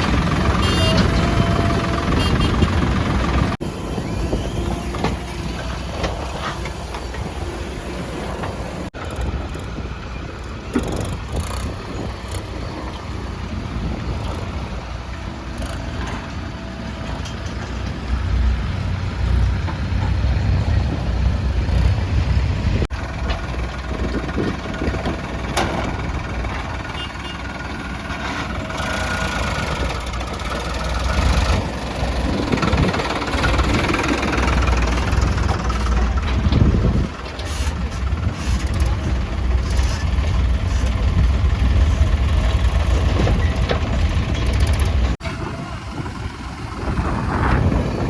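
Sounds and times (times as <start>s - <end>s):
diesel engines running: 0.0s - 48.0s.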